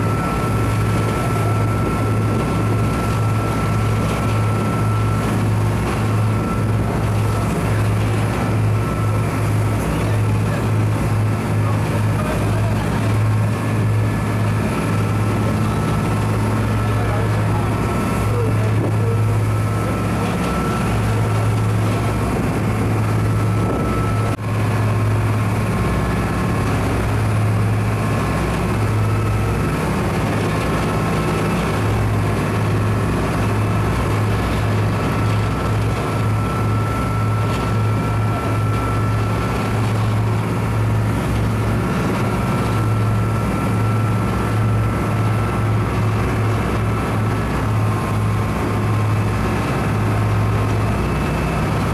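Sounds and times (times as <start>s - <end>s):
boat engines droning: 0.0s - 51.9s
water noise: 0.0s - 51.9s.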